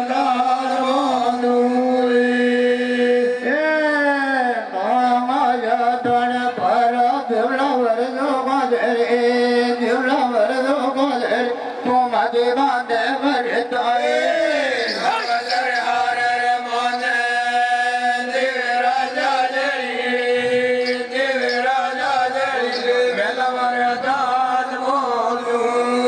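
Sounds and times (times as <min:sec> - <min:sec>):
men singing over loudspeakers: 0:00.0 - 0:26.0.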